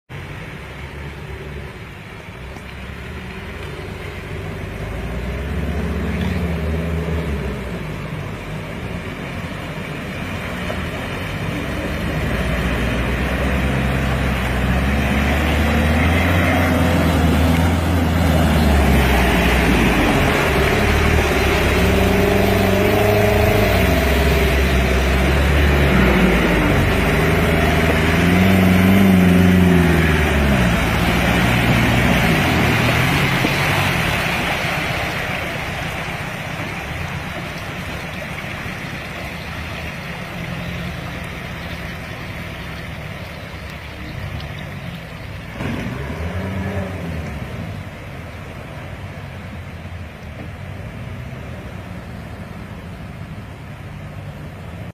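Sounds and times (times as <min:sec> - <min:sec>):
churning mud and water: 0:00.1 - 0:54.9.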